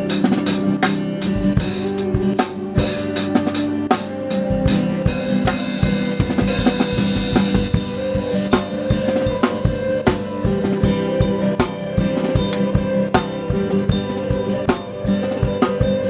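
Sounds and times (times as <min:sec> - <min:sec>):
drum kit beat: 0:00.0 - 0:16.0
live band playing: 0:00.0 - 0:16.0.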